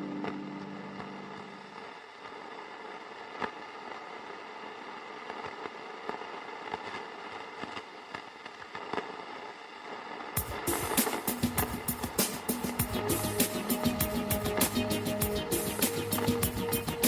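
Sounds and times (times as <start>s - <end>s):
crackles and clicks: 0.0s - 17.0s
static-like drone: 0.0s - 17.0s.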